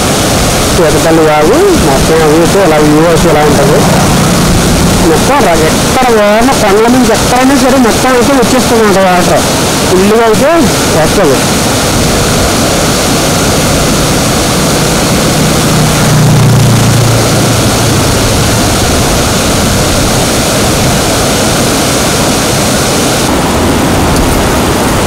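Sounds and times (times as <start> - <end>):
low hum: 0.0 - 7.8, 11.5 - 25.0
stream rushing over rocks: 0.0 - 25.0.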